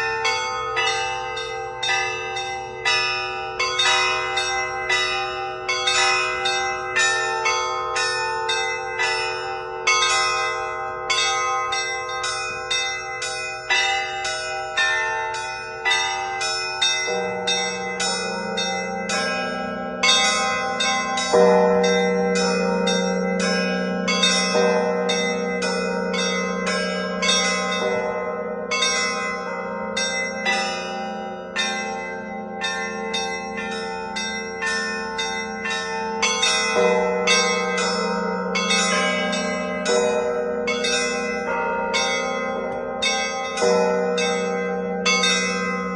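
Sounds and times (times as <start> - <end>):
deep large bells ringing: 0.0 - 45.9
middle bells ringing: 0.0 - 45.9
small high-pitched bells ringing: 0.0 - 45.9.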